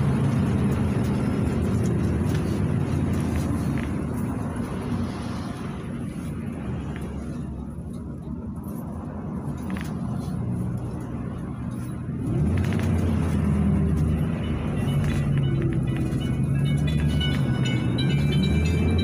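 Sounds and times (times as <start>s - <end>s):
bus engine: 0.0s - 19.0s.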